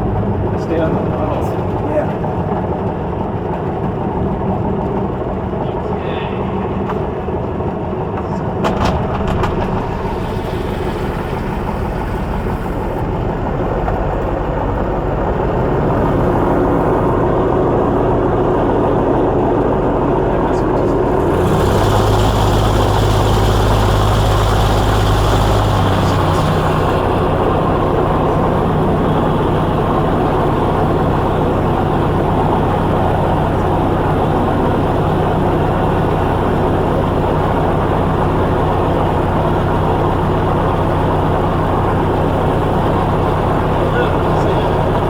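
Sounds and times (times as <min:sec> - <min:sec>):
aircraft engine and propeller: 0:00.0 - 0:45.0.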